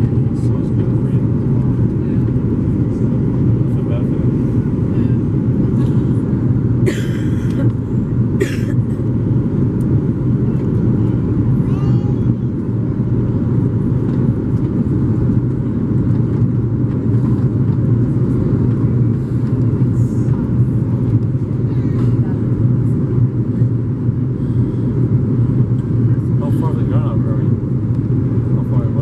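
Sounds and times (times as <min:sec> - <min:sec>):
airliner cabin engine roar: 0:00.0 - 0:29.0.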